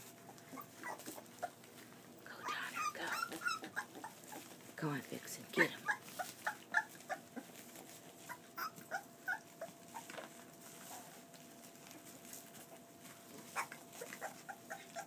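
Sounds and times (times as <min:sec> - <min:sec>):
puppies yipping and whining: 0:00.0 - 0:04.6, 0:05.8 - 0:15.0.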